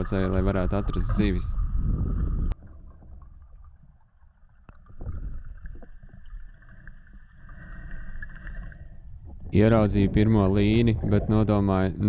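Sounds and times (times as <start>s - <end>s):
low rumble of moving water: 0.0s - 12.0s.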